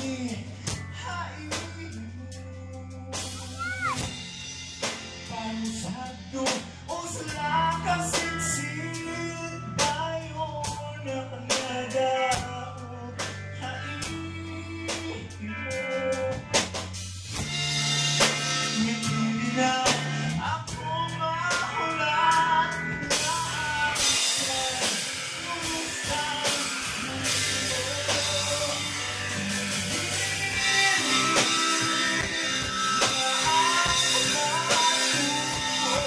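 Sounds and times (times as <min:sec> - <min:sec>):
man singing: 0:00.0 - 0:04.2, 0:04.8 - 0:16.8, 0:18.2 - 0:36.0
bass guitar: 0:00.0 - 0:36.0
drum kit beat: 0:00.0 - 0:36.0
electric guitars: 0:00.0 - 0:36.0.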